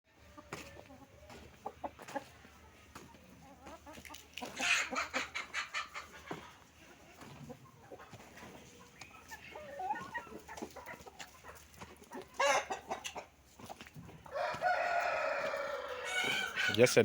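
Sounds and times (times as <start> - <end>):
chickens clucking: 0.1 - 17.0.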